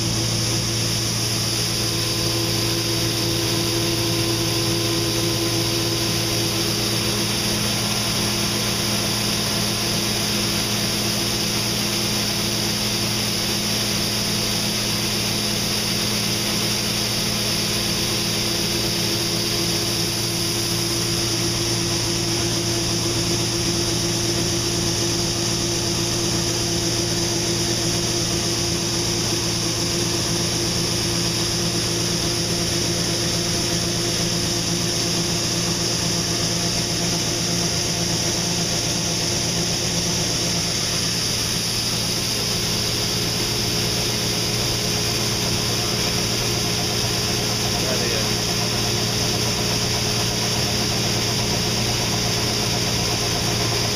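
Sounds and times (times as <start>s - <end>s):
combine engine drone: 0.0s - 53.9s.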